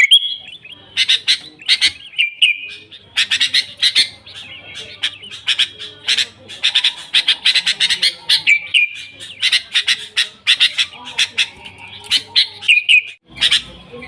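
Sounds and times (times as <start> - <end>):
bulbul singing: 0.0 - 14.0.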